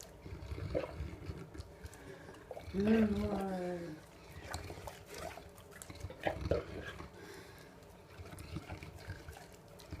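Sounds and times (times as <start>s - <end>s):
gulping: 0.2s - 7.2s, 8.1s - 10.0s.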